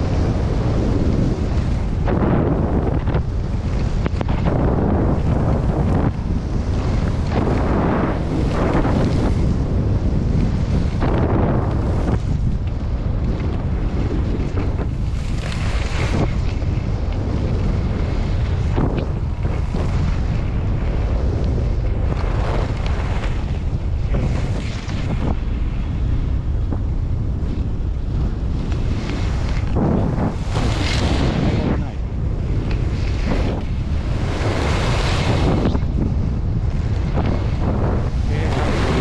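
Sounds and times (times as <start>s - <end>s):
skis scraping snow: 0.0s - 39.0s
wind buffeting microphone: 0.0s - 39.0s.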